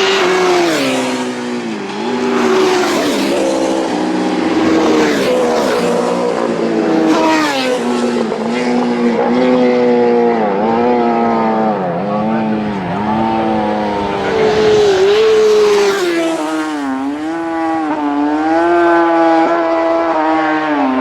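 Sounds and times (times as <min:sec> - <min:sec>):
motorcycle engines at high revs: 0:00.0 - 0:21.0.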